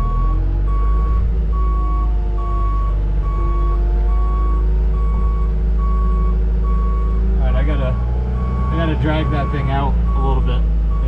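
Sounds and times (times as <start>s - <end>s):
backup alarm beeping: 0.0s - 7.2s, 7.9s - 11.0s
heavy machine engine running: 0.0s - 11.0s.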